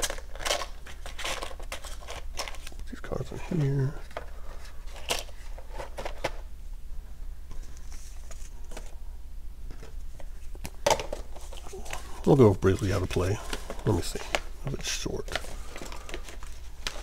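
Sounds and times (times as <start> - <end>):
cardboard and paper rustling: 0.0 - 6.4, 7.5 - 9.0, 9.7 - 17.0.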